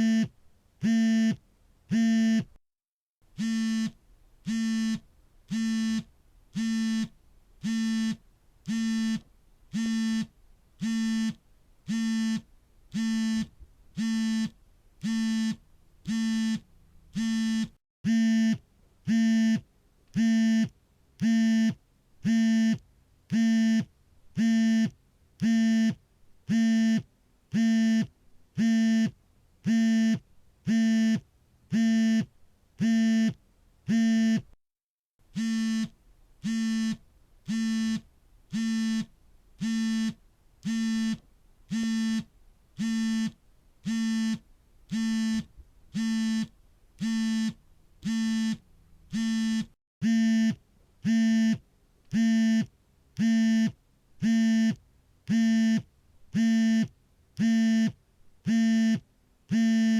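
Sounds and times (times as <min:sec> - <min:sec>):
mobile phone vibrating: 0:00.0 - 0:02.6, 0:03.4 - 0:34.6, 0:35.3 - 0:59.9.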